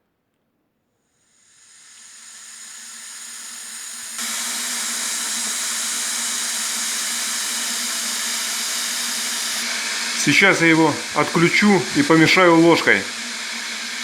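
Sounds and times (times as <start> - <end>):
liquid hissing in electric kettle: 1.2 - 14.0.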